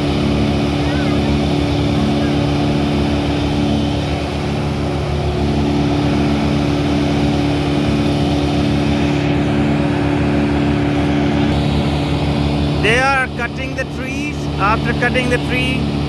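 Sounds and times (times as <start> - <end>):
engine droning with fast pulse: 0.0 - 16.0.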